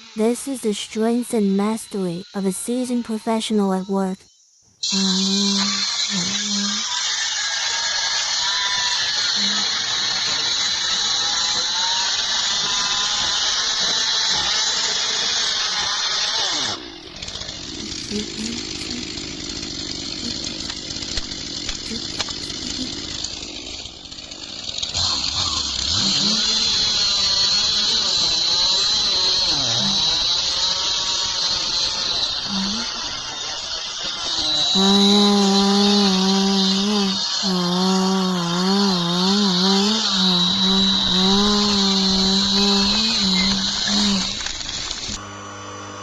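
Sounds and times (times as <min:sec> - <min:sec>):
chainsaw cutting tree trunk: 0:04.8 - 0:46.0.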